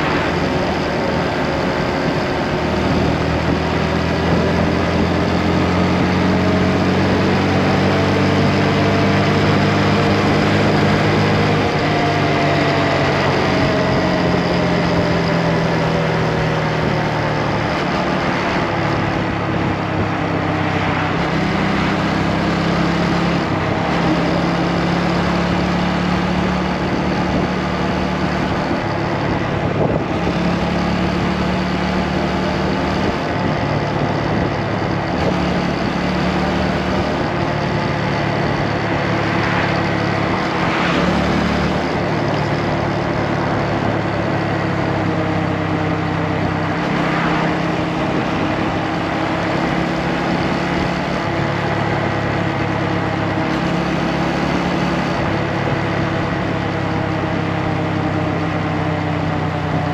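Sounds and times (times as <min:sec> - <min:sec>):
motorcycle engine running: 0:00.0 - 0:59.9
steady rushing noise: 0:00.0 - 0:59.9.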